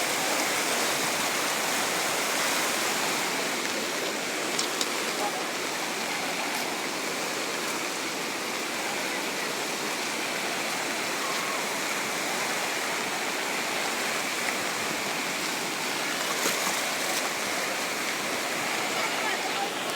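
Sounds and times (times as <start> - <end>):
river rushing: 0.0 - 19.9.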